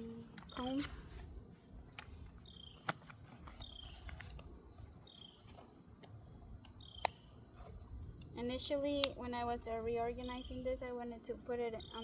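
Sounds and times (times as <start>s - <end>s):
insect-like chirps: 0.0s - 12.0s
steady high-pitched whine: 0.0s - 12.0s.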